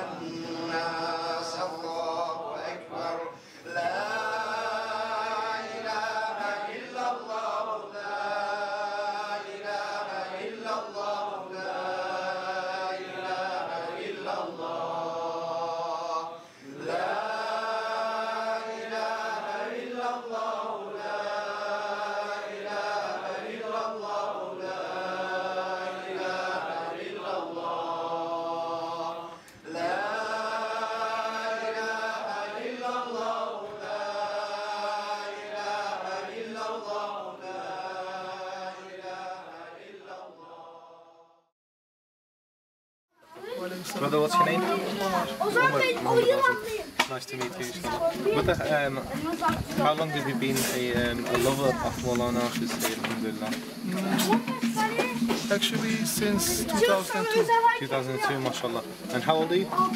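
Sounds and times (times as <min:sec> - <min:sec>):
men chanting together: 0:00.0 - 0:41.2, 0:43.8 - 0:59.9.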